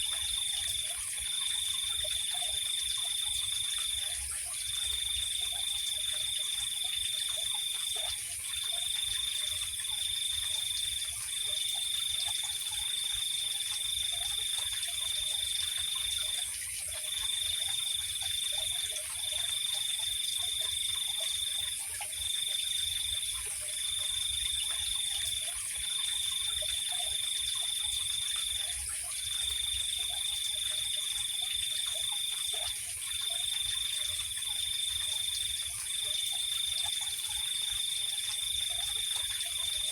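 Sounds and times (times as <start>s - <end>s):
high steady insect trill: 0.0s - 39.9s.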